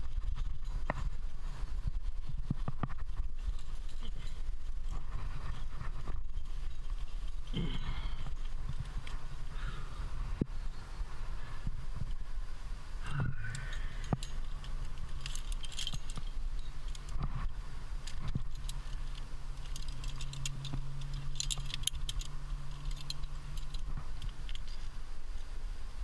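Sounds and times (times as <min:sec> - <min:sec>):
metal climbing gear clinking: 0:00.0 - 0:10.2, 0:13.1 - 0:25.4
low steady hum: 0:00.0 - 0:26.0.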